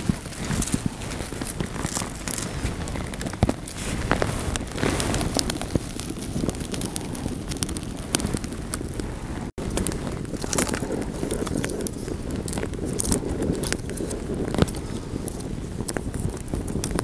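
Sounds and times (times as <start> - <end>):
twig fire crackling: 0.0 - 17.0
wind rumble on microphone: 0.0 - 17.0.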